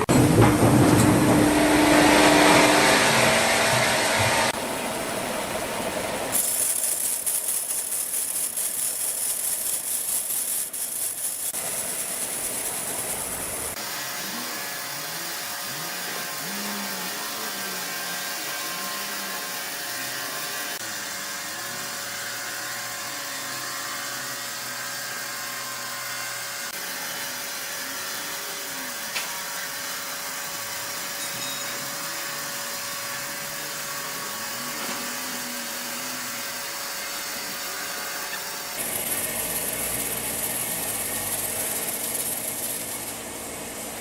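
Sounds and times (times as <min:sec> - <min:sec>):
sawmill machinery running: 0:00.0 - 0:44.0.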